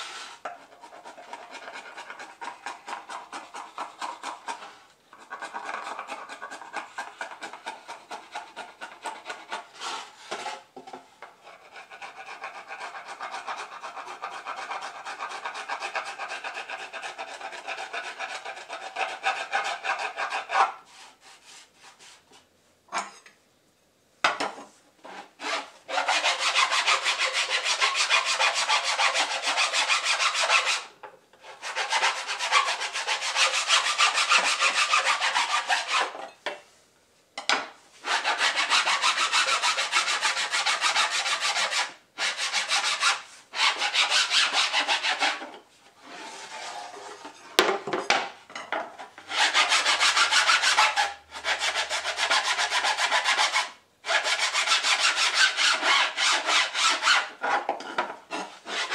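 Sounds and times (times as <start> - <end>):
hand file rasping on board: 0.0 - 10.6, 11.4 - 22.0, 25.1 - 36.2, 38.0 - 47.3, 49.3 - 58.9.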